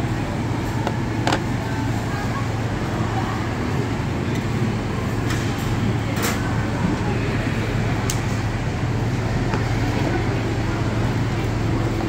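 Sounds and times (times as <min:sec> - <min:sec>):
restaurant dining room ambience: 0:00.0 - 0:12.0
steady low hum: 0:00.0 - 0:12.0.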